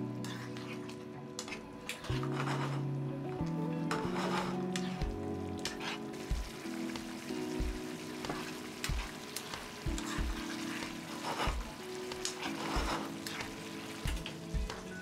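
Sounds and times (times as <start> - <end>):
ladle stirring: 0.2 - 2.9, 3.9 - 6.6, 8.2 - 15.0
sauce bubbling and sizzling: 1.8 - 15.0
background music with beat: 2.1 - 15.0.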